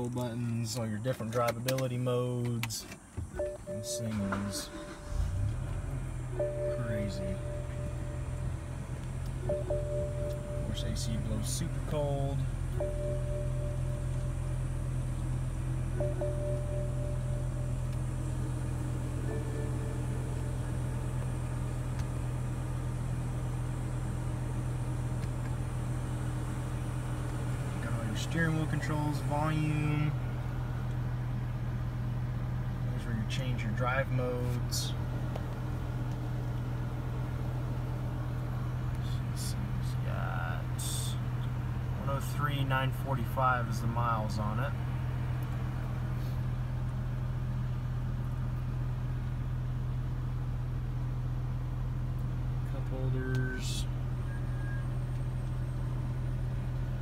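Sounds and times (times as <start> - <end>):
car engine idling hum: 0.0 - 57.0
climate control running: 0.0 - 57.0.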